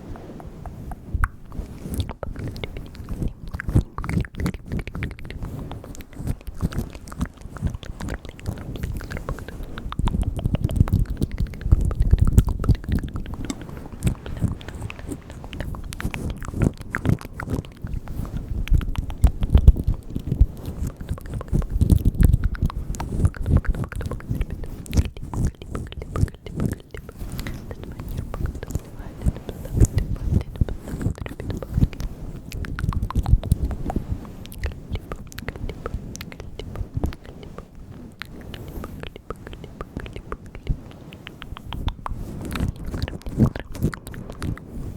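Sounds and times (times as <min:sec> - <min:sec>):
wet mouth clicks and smacks: 0:00.0 - 0:44.9.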